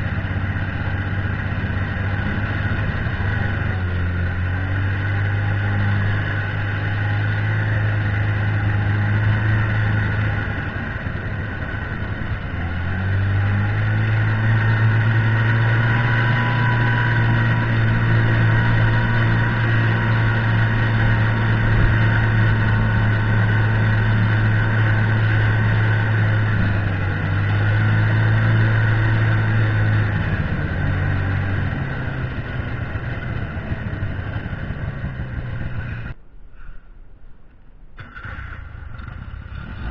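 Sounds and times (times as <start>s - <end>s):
snowmobile engine droning: 0.0s - 39.9s.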